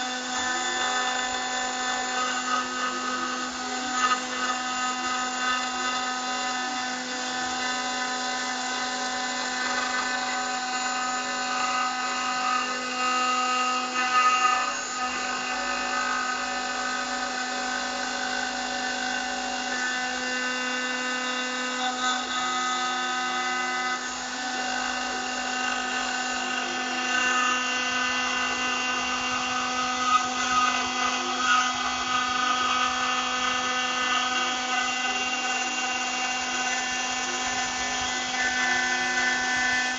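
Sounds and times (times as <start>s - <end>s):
bit cutting metal: 0.0s - 39.9s
engraving spindle high whine: 0.0s - 39.9s.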